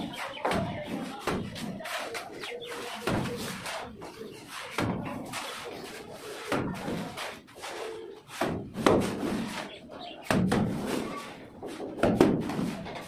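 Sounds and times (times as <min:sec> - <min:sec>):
mortar slapping onto brick wall: 0:00.1 - 0:05.7, 0:06.4 - 0:07.6, 0:08.2 - 0:13.0.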